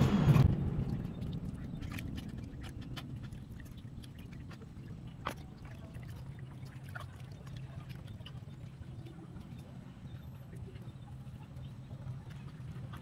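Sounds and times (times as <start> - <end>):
water sloshing in plastic basin: 0.4 - 13.0.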